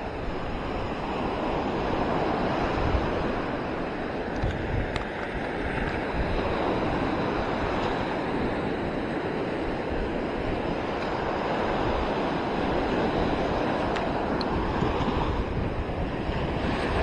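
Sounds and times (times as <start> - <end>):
surf breaking on beach: 0.0 - 17.0
wind gusting on microphone: 0.0 - 17.0.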